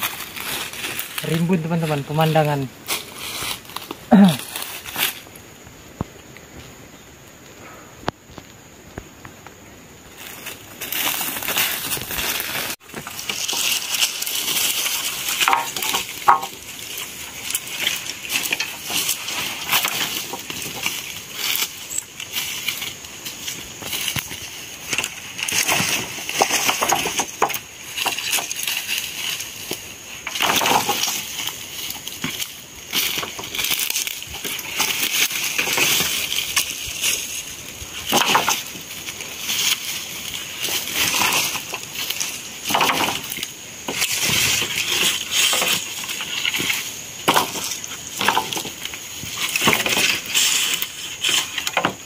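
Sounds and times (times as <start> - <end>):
wooden poles clattering: 0.0 - 5.2, 10.8 - 52.0
rustling through dry leaves: 0.0 - 7.0, 9.8 - 52.0.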